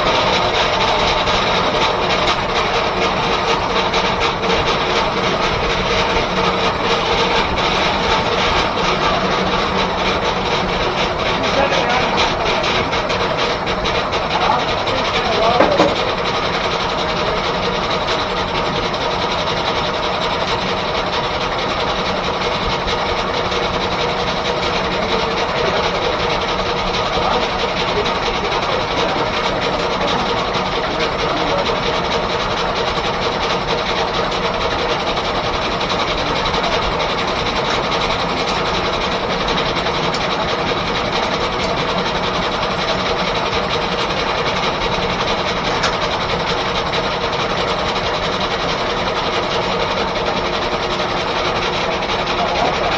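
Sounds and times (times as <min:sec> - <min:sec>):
sawmill mechanical clatter: 0:00.0 - 0:52.9.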